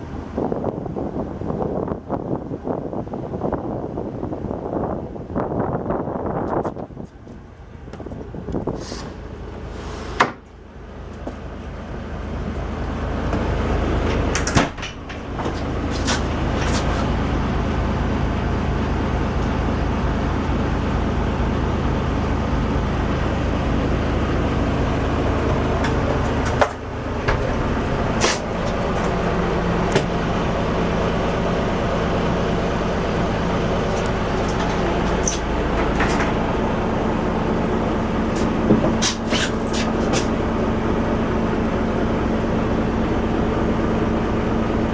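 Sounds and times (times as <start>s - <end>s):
boat engine running: 6.6s - 44.9s.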